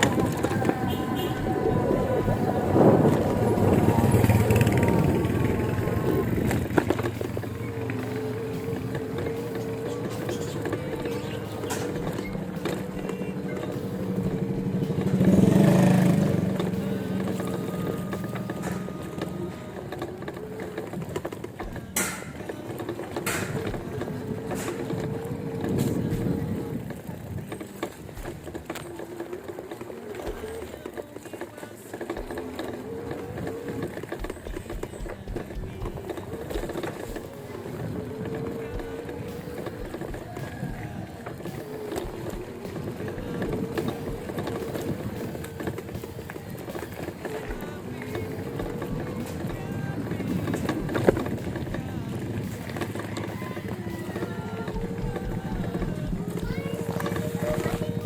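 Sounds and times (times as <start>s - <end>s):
electric bike motor hum: 0.0s - 58.0s
wind and road noise: 0.0s - 58.0s.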